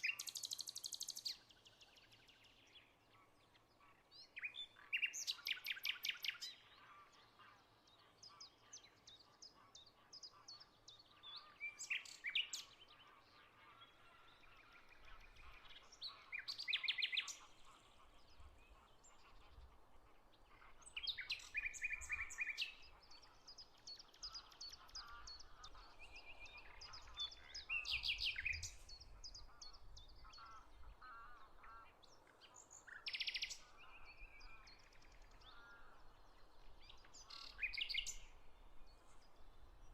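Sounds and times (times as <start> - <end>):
faint bird chirping: 0.0 - 39.9
songbirds singing trills: 0.0 - 39.9.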